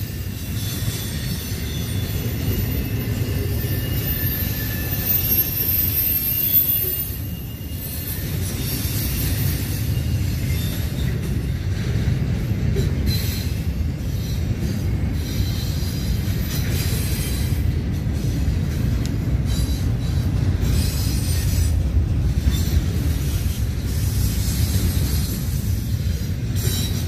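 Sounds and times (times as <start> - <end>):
train cars rolling past: 0.0 - 27.0
wheels squealing on rails: 0.0 - 27.0.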